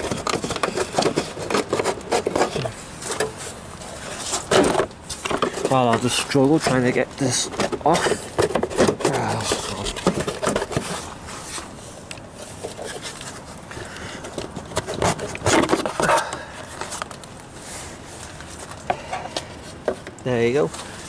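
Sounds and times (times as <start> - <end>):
plastic cover scraping and clicking: 0.0 - 17.4.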